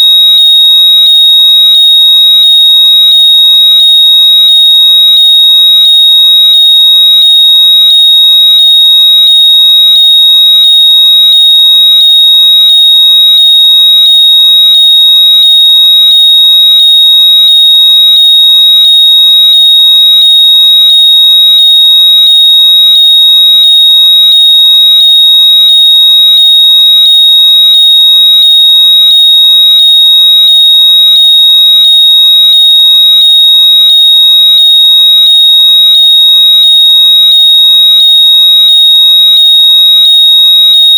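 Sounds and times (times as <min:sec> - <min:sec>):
high-pitched electronic tone: 0:00.0 - 0:40.9.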